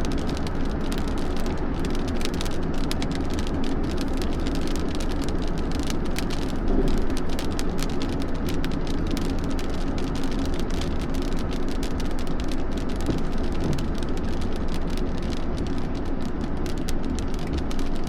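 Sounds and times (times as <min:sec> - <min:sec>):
heavy rain on a hard surface: 0:00.0 - 0:18.0
low rumble of storm wind: 0:00.0 - 0:18.0.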